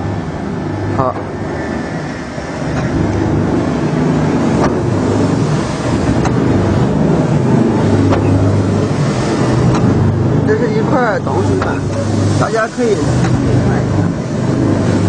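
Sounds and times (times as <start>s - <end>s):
machine motor and pump hum: 0.0s - 15.0s.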